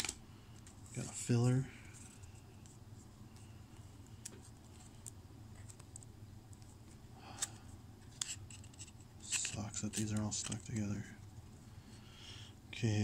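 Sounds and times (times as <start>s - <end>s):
cards rustling: 0.0s - 11.2s.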